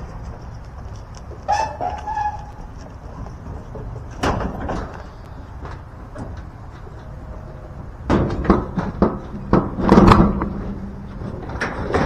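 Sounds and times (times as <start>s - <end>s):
noisy clatter: 0.0s - 12.0s.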